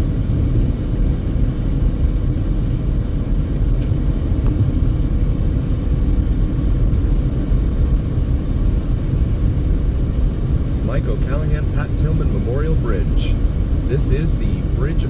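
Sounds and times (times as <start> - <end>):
car driving at highway speed: 0.0 - 15.0.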